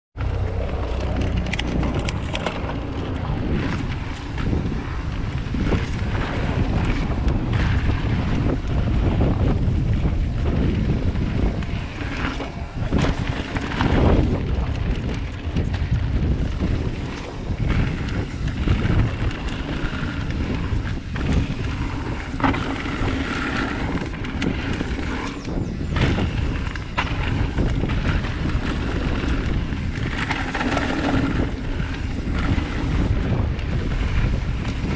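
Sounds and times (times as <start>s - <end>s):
bike and rocks clattering: 0.2s - 34.9s
tyres on dirt and stones: 0.2s - 34.9s
wind buffeting microphone: 0.2s - 34.9s.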